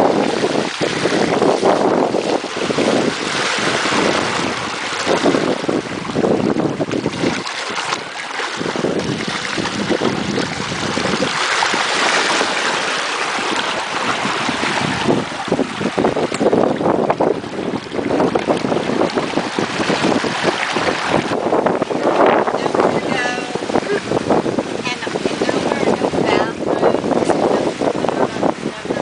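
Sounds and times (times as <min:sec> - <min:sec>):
water rushing along boat hull: 0:00.0 - 0:29.0
wind buffeting microphone: 0:00.0 - 0:29.0.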